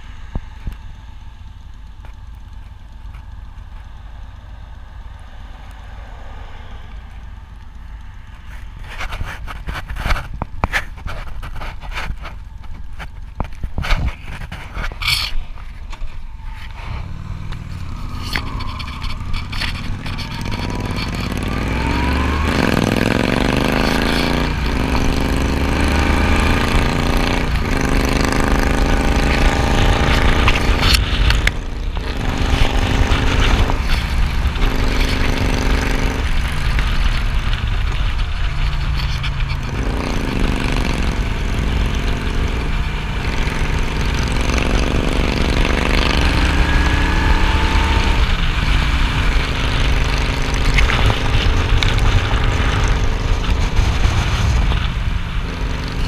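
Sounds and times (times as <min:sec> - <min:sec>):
motorcycle engine accelerating: 0:00.0 - 0:56.0
wind noise: 0:06.0 - 0:56.0.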